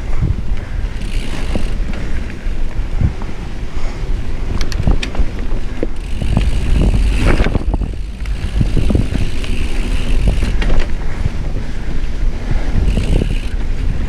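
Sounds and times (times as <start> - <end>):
bike clicks and rattles: 0.0 - 14.0
wind buffeting microphone: 0.0 - 14.0
tyres rolling on dirt: 0.8 - 14.0.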